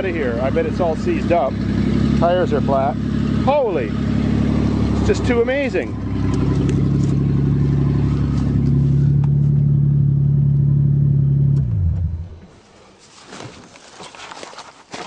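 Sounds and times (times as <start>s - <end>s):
car engine idling and stopping: 0.0s - 12.5s.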